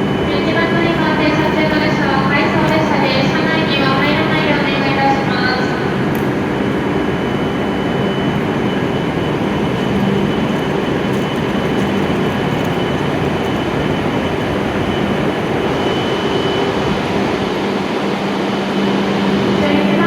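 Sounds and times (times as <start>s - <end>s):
train equipment humming: 0.0s - 20.0s.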